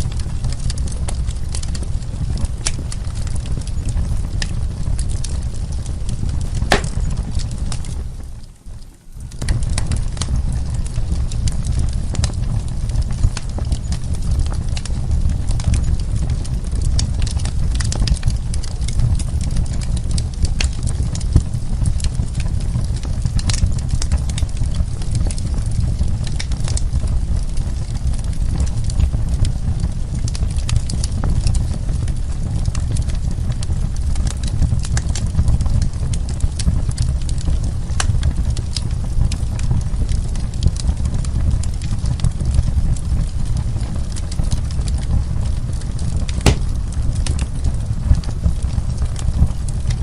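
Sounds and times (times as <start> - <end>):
fire crackling and popping: 0.0 - 50.0
low rumble of burning logs: 0.0 - 50.0.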